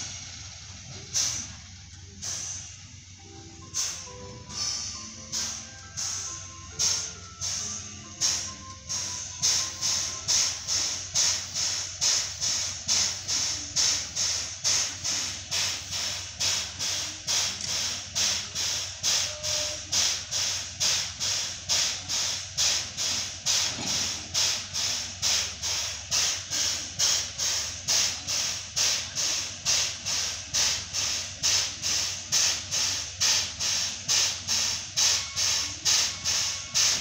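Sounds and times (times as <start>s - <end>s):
steam locomotive hissing in pulses: 0.0s - 37.0s.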